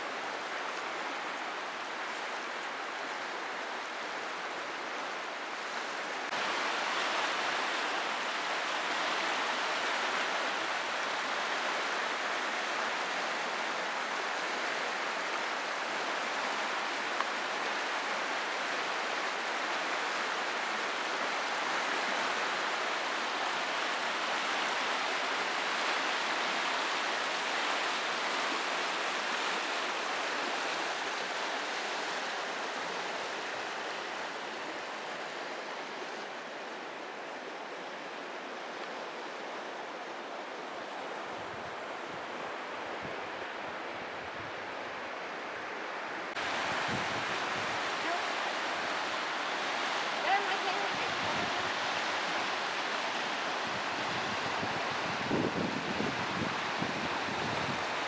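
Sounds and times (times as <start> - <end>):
river rushing through rapids: 0.0 - 58.0.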